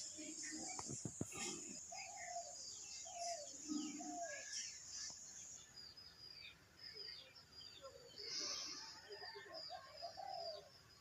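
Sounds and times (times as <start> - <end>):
faint birdsong chirps: 0.0 - 11.0
insect drone: 0.0 - 11.0.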